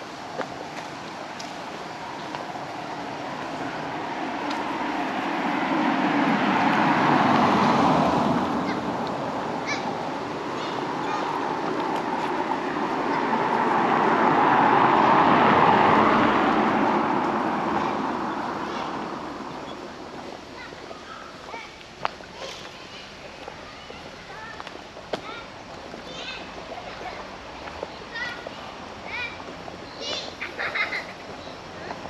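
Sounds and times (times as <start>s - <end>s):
vehicles passing close by: 0.0s - 32.0s.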